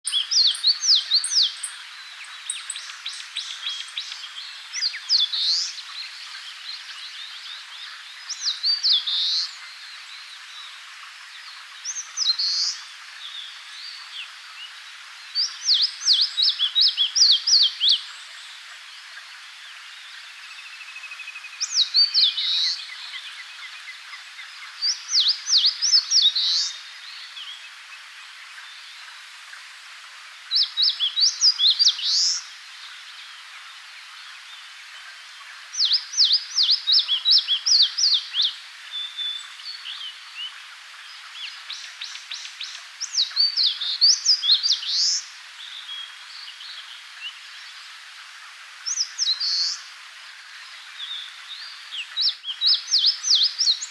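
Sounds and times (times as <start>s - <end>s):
warbler singing: 0.0s - 29.2s, 30.4s - 47.9s, 48.8s - 49.9s, 50.5s - 53.9s.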